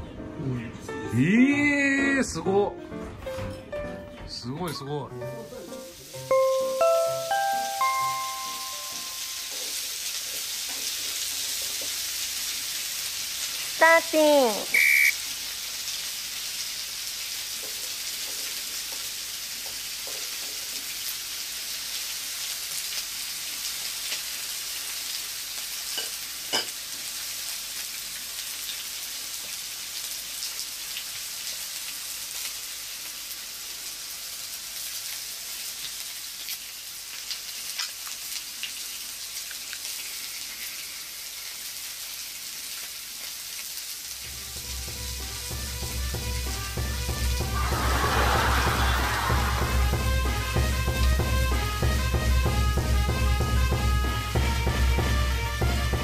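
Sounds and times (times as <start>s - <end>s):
food sizzling on a griddle: 5.2s - 52.2s.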